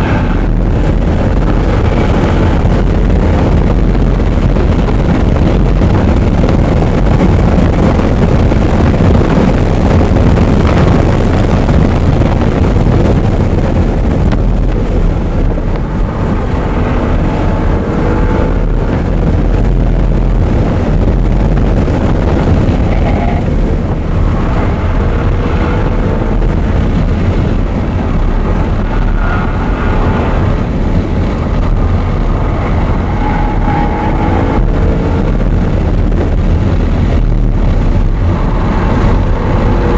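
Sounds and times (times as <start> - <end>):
race car engine revving: 0.0 - 39.9
wind buffeting microphone: 0.0 - 39.9.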